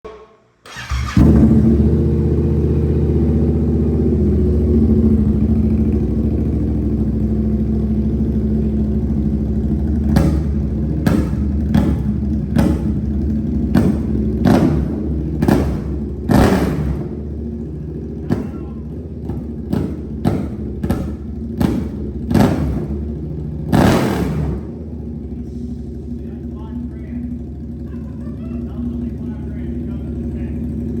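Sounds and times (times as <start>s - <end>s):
motorcycle engine idling and revving: 0.7s - 31.0s.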